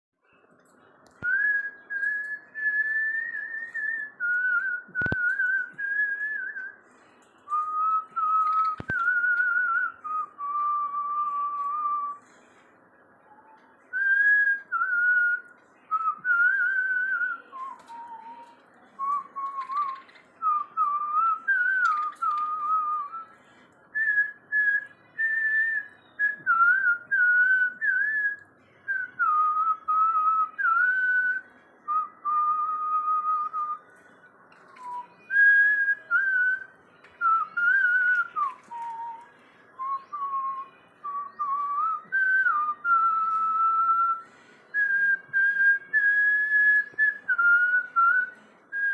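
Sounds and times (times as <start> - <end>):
whistled melody: 0.2 - 48.9.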